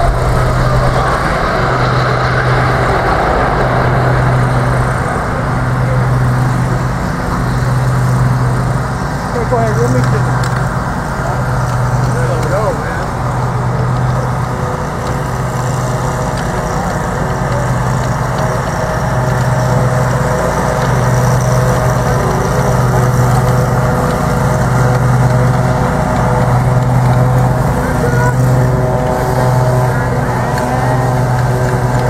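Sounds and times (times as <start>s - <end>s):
motor droning: 0.0s - 32.0s.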